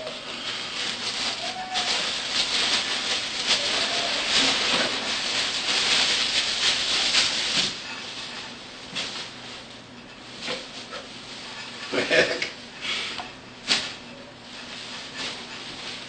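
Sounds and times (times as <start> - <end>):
tissue paper rustling: 0.0 - 11.8, 13.6 - 16.0.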